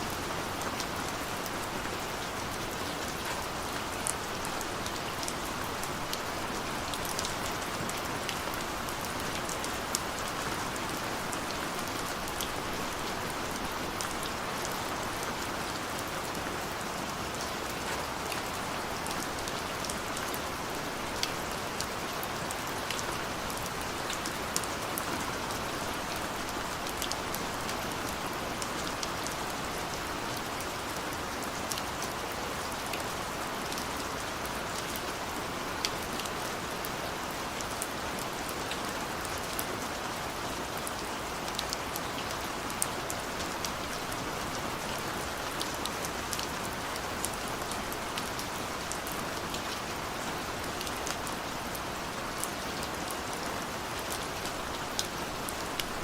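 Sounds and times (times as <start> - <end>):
rain on a window: 0.0 - 56.0.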